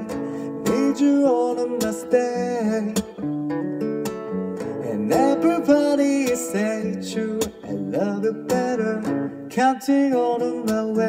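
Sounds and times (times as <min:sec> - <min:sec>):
man singing: 0:00.0 - 0:03.3, 0:04.6 - 0:11.0
acoustic guitar strummed: 0:00.0 - 0:11.0.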